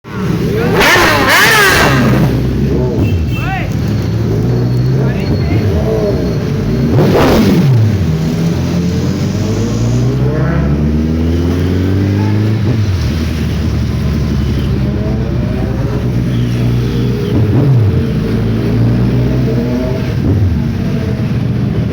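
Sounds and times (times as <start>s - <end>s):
motorcycle engine revving: 0.1s - 21.9s.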